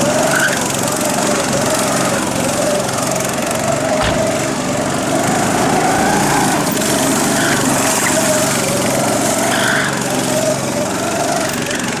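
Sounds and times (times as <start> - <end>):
go-kart engine revving: 0.0 - 12.0.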